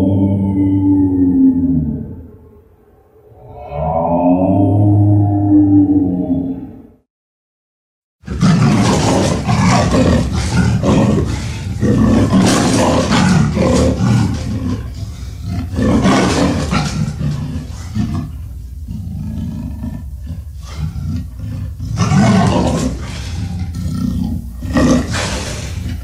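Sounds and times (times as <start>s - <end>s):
monster roar: 0.0s - 2.4s, 3.2s - 6.8s, 8.2s - 26.0s.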